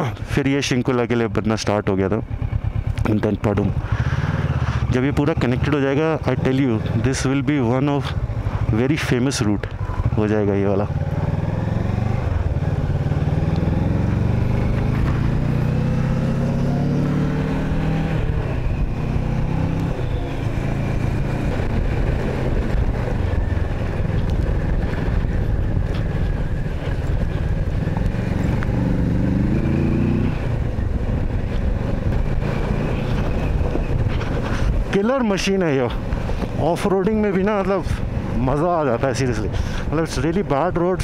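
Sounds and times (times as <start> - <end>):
wind and road noise: 0.0 - 41.0
motorcycle engine accelerating: 1.4 - 38.8.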